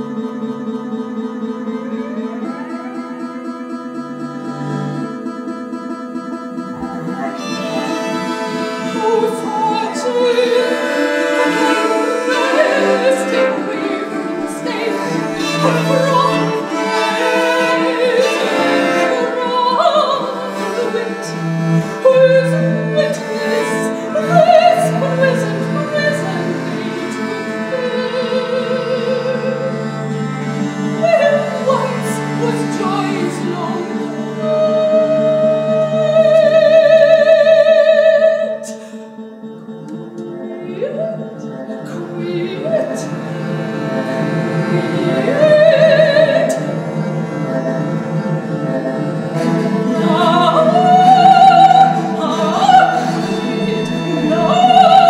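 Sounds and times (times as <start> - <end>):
viols bowing sustained chords: 0.0 - 55.0
soprano singing: 6.2 - 55.0.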